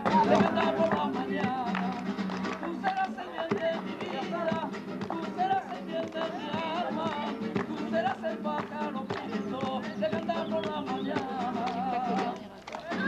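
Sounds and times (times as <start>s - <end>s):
ornamented vocal melody: 0.0s - 13.0s
plucked guitar: 0.0s - 13.0s.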